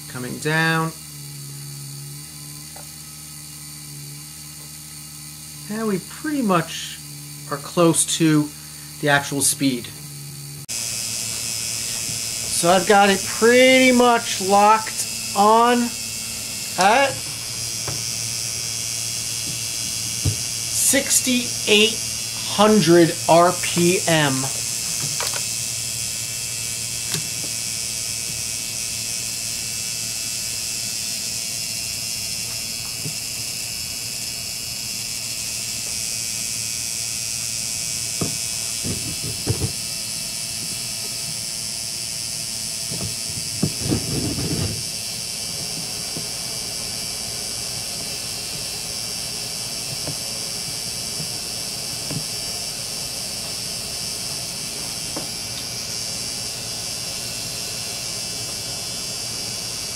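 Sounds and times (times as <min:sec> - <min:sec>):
small motor hiss and hum: 0:00.0 - 0:59.9.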